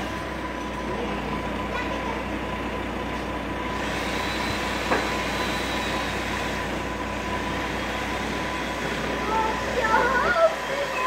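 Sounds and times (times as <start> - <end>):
crane engine whining: 0.0 - 11.0.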